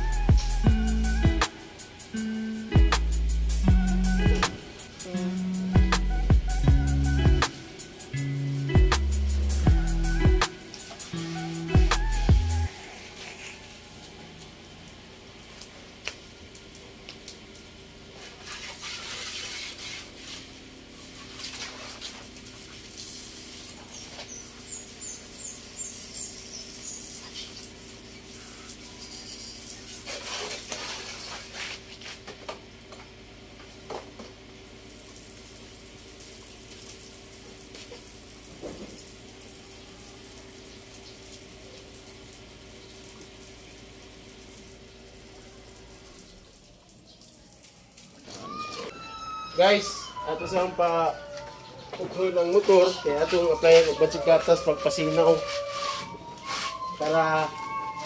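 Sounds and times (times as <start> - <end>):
water spraying from hose: 0.0 - 32.4, 33.2 - 51.5, 52.1 - 58.0.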